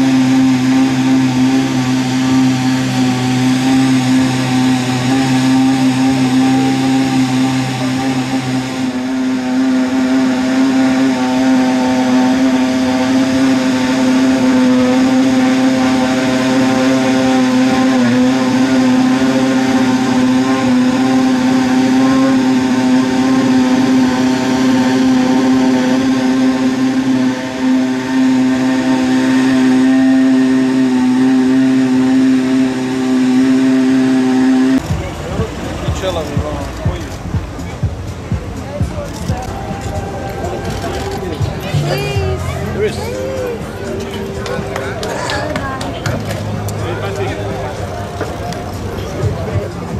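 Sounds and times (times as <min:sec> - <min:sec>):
racing car engine at high revs: 0:00.0 - 0:49.9.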